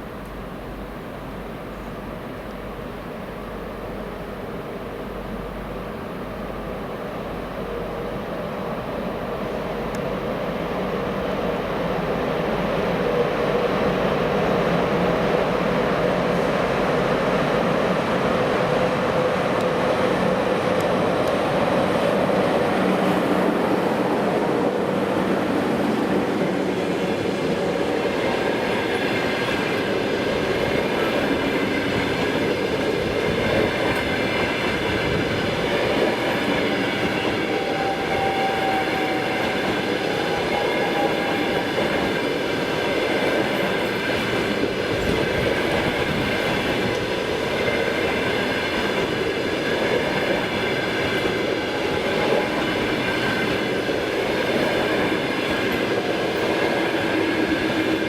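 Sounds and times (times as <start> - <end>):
train wheels running on rails: 0.0 - 58.0.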